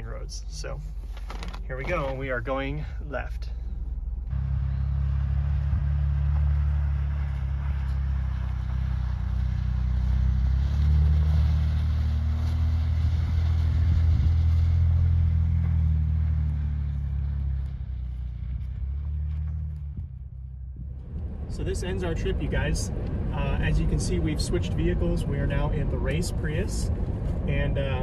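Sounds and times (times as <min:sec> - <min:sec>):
car engine at low revs: 0:00.0 - 0:28.0.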